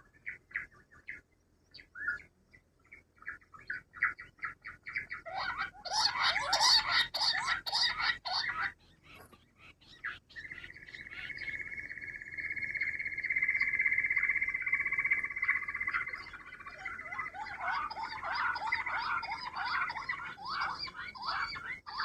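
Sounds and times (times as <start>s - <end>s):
quail chirping: 3.2s - 22.0s
quail trilling: 3.2s - 22.0s.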